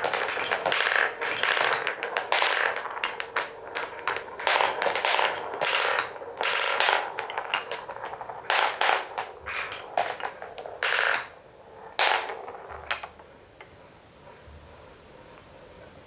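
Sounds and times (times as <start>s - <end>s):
balls rolling on wooden track: 0.0s - 14.4s.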